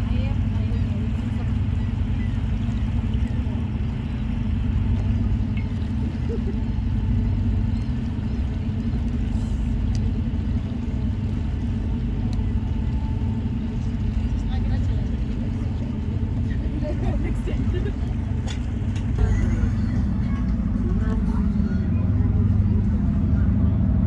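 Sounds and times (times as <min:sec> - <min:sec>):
boat engines rumbling: 0:00.0 - 0:24.0.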